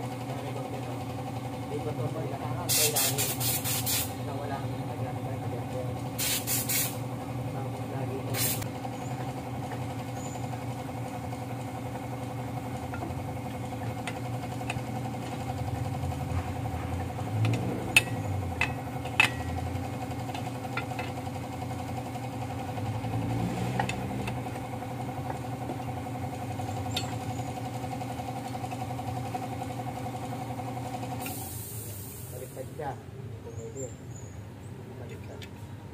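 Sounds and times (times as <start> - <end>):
engine idling: 0.0 - 35.9.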